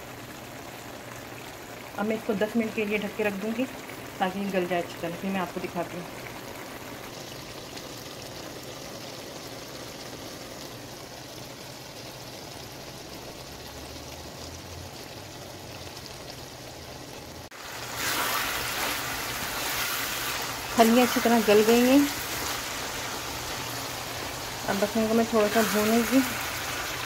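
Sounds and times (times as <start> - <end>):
beans simmering in a wok: 0.0 - 27.0
frying sizzle: 0.0 - 27.0.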